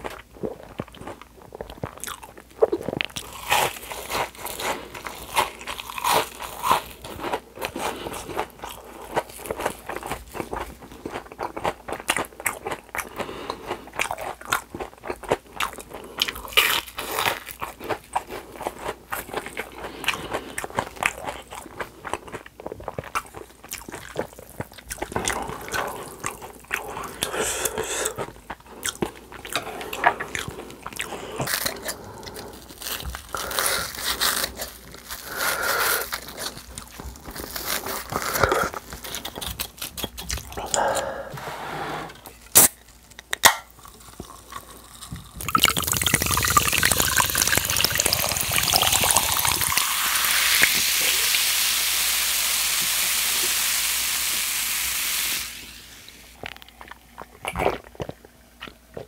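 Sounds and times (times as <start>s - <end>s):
crunching fried shrimp: 0.0s - 41.0s, 42.4s - 51.4s.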